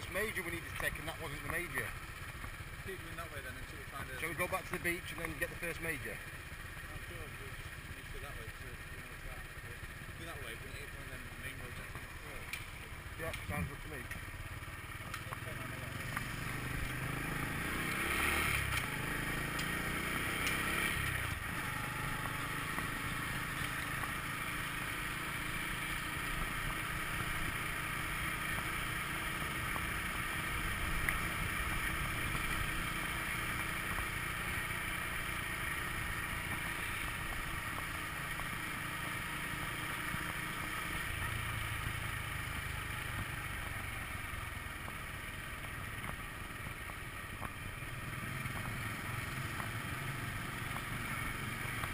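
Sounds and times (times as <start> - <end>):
wind and road noise: 0.0 - 6.9, 11.4 - 51.9
scooter engine running: 0.0 - 51.9.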